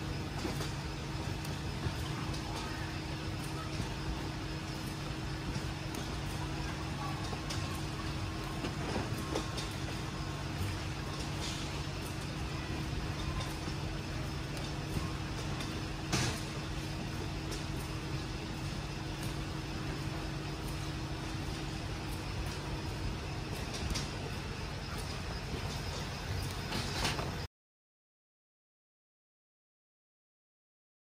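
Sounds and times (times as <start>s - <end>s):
low hum: 0.0s - 27.5s
packing machinery drone: 0.0s - 27.5s.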